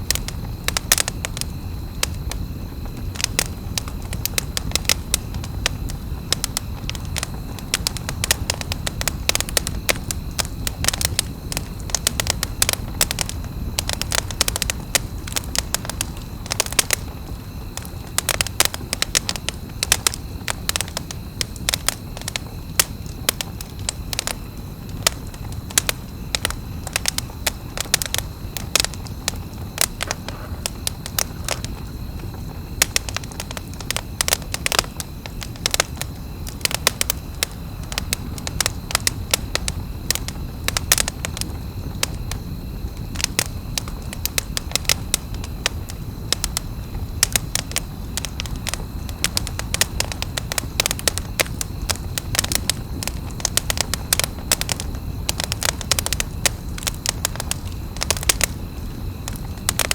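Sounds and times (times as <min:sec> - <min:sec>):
campfire crackling and popping: 0:00.0 - 0:59.9
low rumble of flame: 0:00.0 - 0:59.9.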